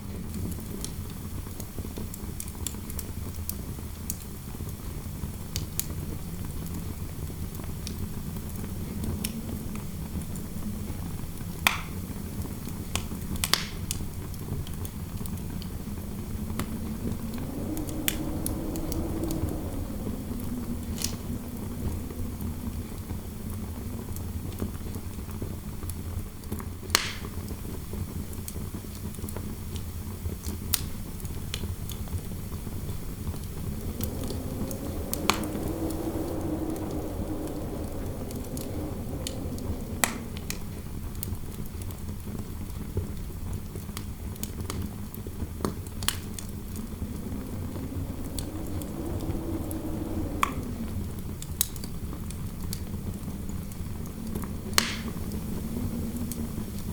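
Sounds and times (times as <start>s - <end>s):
fireplace fire crackling: 0.0s - 56.9s
wind howling: 3.8s - 26.5s, 30.9s - 43.2s, 44.4s - 56.9s.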